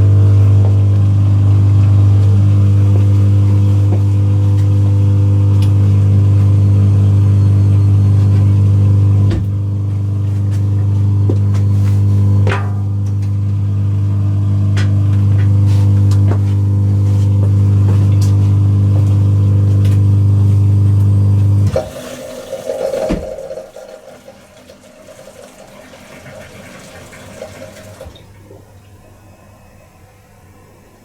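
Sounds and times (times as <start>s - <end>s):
dishwasher pump humming: 0.0s - 31.0s.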